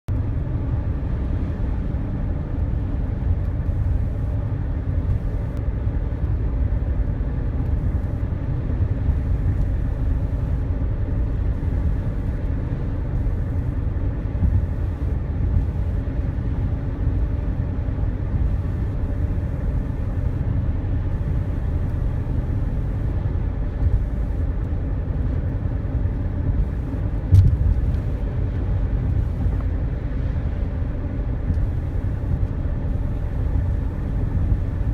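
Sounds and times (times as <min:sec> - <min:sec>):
car road noise rumble: 0:00.1 - 0:34.9.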